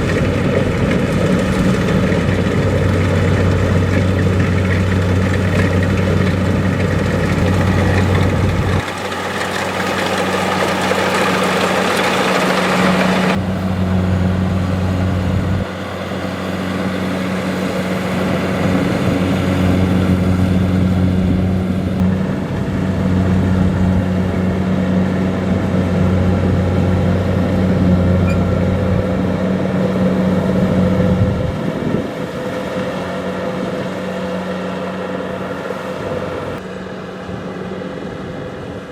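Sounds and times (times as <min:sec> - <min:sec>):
combine harvester diesel engine drone: 0:00.0 - 0:38.9.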